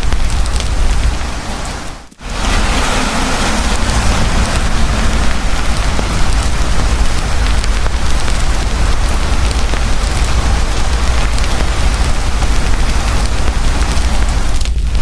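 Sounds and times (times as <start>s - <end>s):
campfire crackling: 0.0s - 15.0s
heavy rain falling: 0.0s - 15.0s
low rumble: 2.2s - 15.0s.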